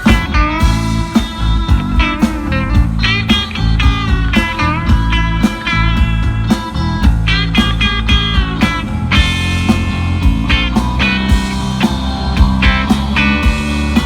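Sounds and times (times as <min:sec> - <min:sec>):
bass guitar: 0:00.0 - 0:14.0
electric guitar with bent notes: 0:00.0 - 0:14.0
steady drum beat: 0:00.0 - 0:14.0.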